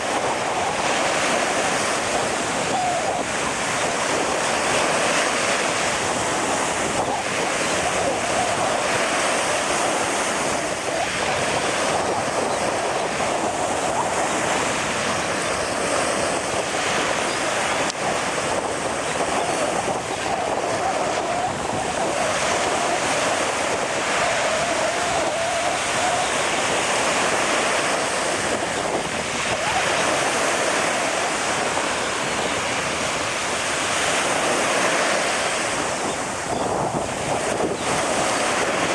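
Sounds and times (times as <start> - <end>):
ocean surf washing in: 0.0 - 38.9
wind buffeting microphone: 0.0 - 38.9.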